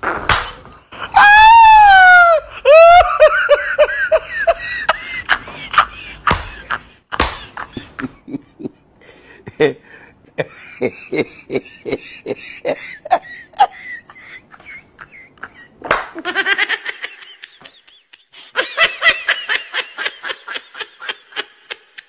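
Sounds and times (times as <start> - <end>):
people laughing: 2.6 - 8.8, 10.4 - 22.0.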